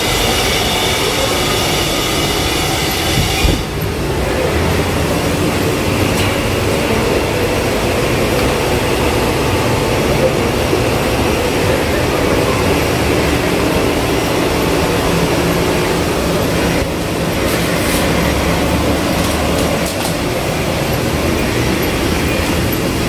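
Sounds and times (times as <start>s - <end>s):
car wash machine noise: 0.0s - 23.0s.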